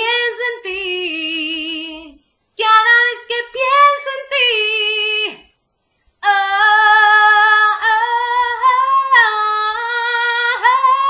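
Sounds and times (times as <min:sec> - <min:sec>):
woman singing a cappella: 0:00.0 - 0:05.6, 0:06.2 - 0:11.0.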